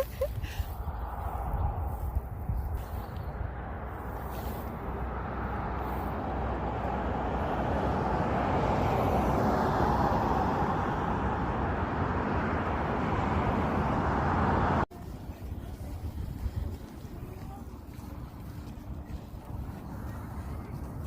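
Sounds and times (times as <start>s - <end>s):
highway traffic: 0.0s - 21.0s.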